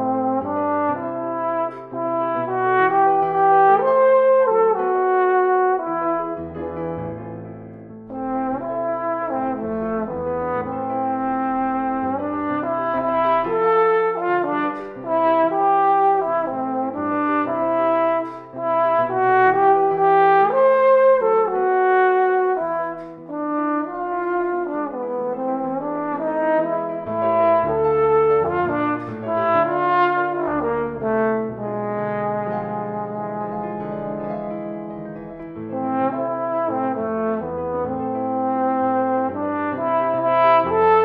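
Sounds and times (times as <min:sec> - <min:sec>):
trombone melody: 0:00.0 - 0:07.5, 0:08.1 - 0:41.0
piano accompaniment: 0:00.0 - 0:41.0.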